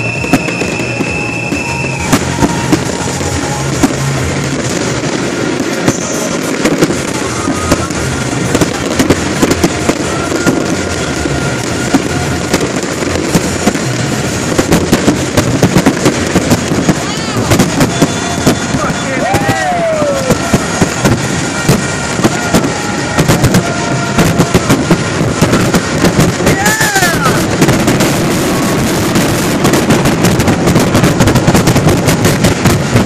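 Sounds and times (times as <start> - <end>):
firework shell bursts: 0.0 - 33.0
fireworks crackling: 0.0 - 33.0.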